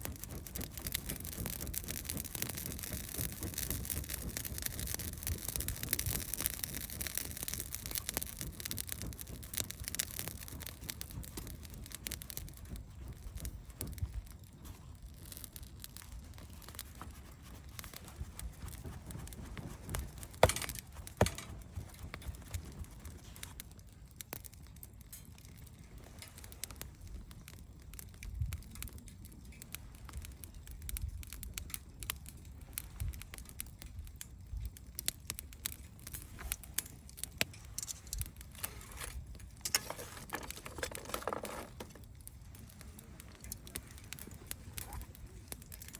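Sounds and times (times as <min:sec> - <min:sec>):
loud fire snaps: 0:00.0 - 0:45.9
wood fire crackling: 0:00.0 - 0:45.9.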